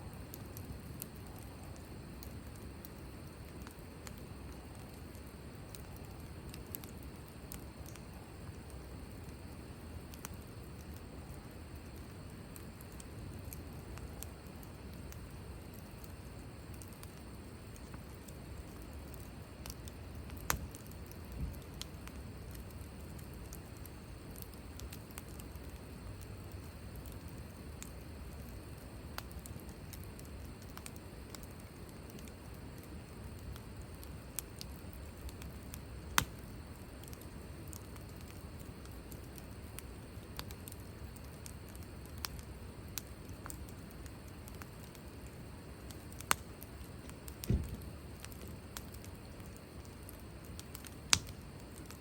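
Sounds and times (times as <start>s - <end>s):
wood fire rumbling: 0.0s - 52.0s
wood popping and crackling: 0.3s - 52.0s.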